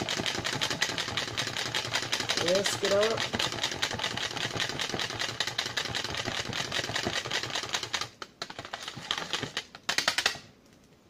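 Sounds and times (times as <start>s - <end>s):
whisk rattling in plastic cup: 0.0s - 10.3s.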